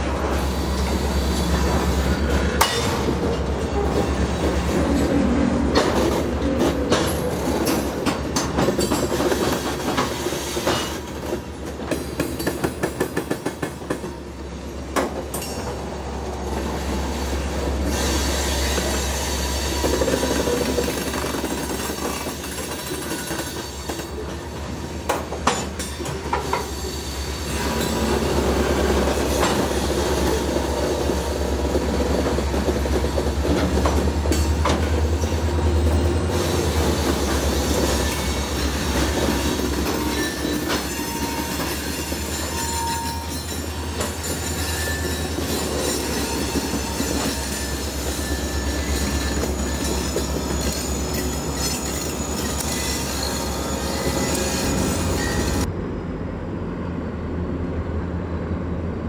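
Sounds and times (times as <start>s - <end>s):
rail noise: 0.0s - 59.0s.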